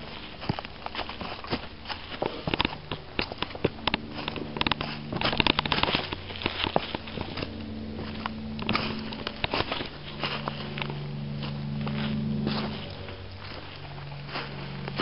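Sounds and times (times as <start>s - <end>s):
footsteps crunching on dry ground: 0.0s - 15.0s
low steady hum: 0.0s - 15.0s.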